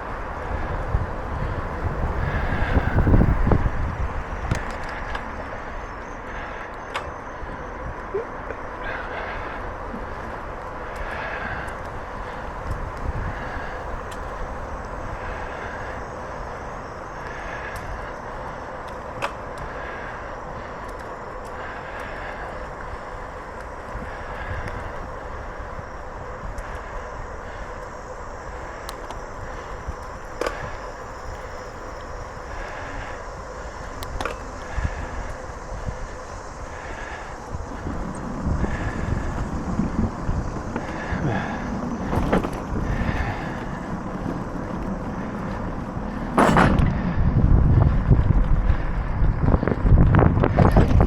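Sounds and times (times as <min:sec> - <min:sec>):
bicycle tyres rumbling on pavement: 0:00.0 - 0:51.0
wind on microphone: 0:00.0 - 0:51.0.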